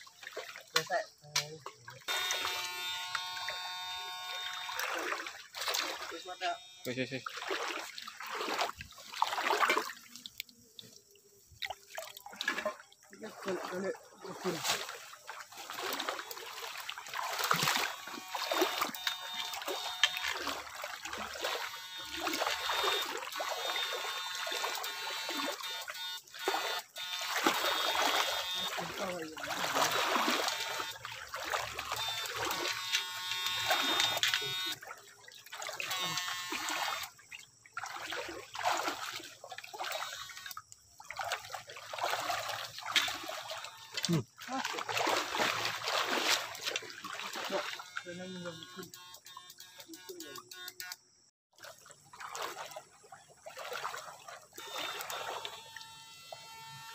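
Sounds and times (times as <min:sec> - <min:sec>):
water splashing and trickling: 0:00.0 - 0:56.9.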